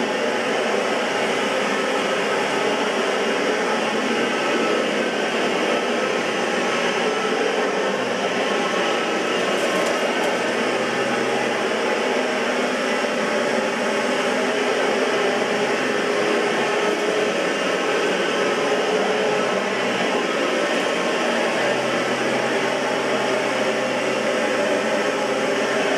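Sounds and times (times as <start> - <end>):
upright vacuum cleaner running: 0.0 - 25.9.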